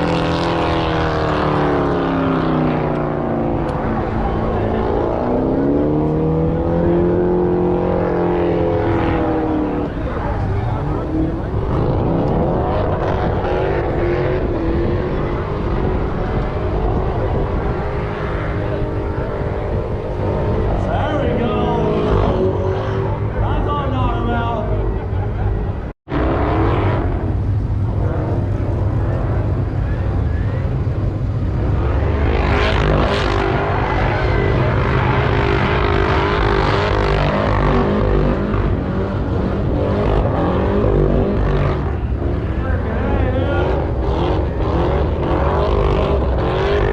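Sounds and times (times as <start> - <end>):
car engine at high revs: 0.0 - 46.9.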